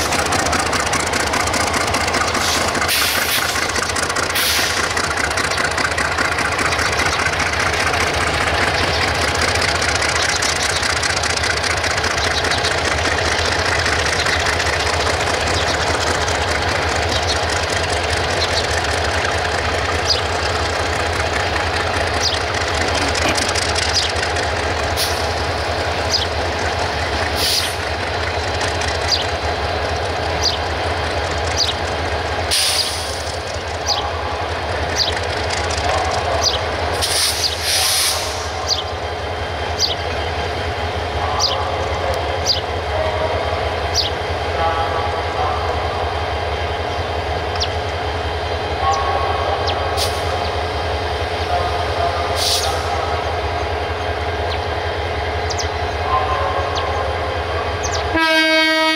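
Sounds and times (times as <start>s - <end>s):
rail clicks: 0.0s - 58.9s
train running on track: 0.0s - 58.9s.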